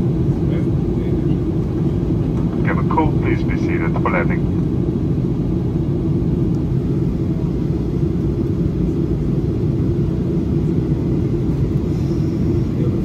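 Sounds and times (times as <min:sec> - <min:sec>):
jet engines low rumble: 0:00.0 - 0:13.0.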